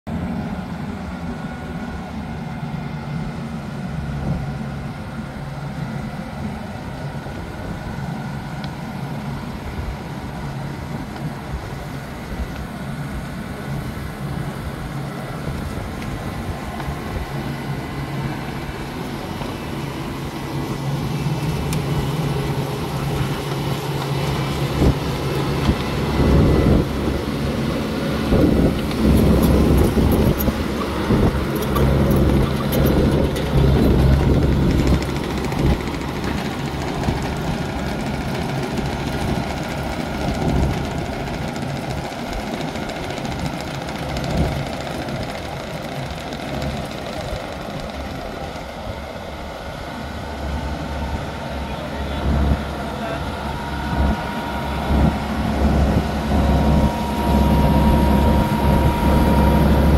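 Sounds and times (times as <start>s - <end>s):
combine harvester diesel engine: 0.1s - 59.9s.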